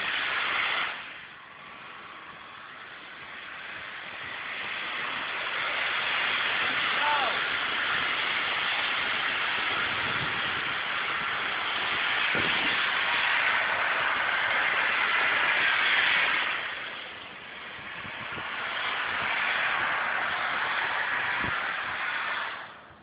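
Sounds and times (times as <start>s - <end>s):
heavy hiss: 0.0s - 23.0s.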